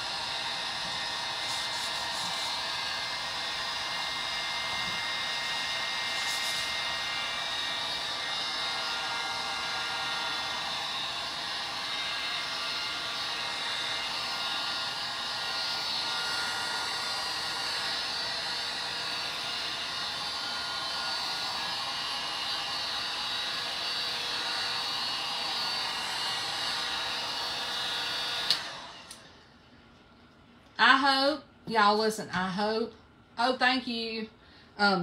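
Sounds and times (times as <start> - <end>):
heat gun fan blowing: 0.0 - 30.0.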